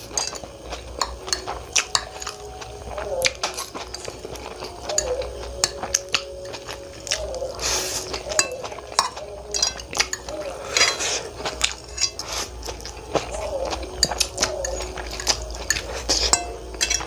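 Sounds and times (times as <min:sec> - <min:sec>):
cutlery clinking against dish: 0:00.0 - 0:02.4, 0:03.4 - 0:06.7, 0:08.0 - 0:17.0
noisy eating sounds: 0:00.0 - 0:17.0.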